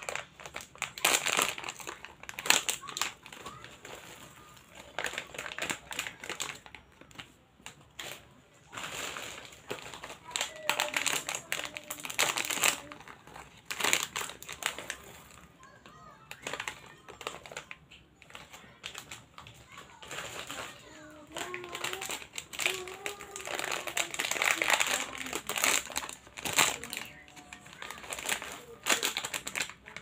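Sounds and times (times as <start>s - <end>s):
plastic snack packets crinkling: 0.0s - 30.0s.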